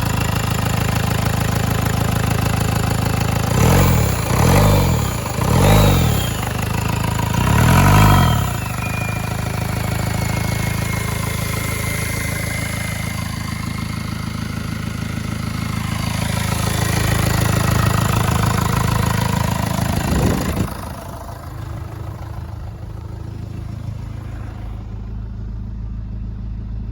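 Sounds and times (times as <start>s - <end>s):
diesel engine revving and idling: 0.0s - 26.9s
engine whine: 0.0s - 26.9s.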